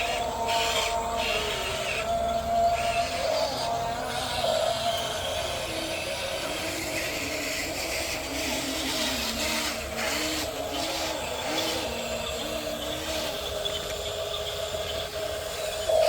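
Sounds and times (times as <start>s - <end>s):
small electric motors whining: 0.0s - 16.0s
steady hum: 0.0s - 16.0s.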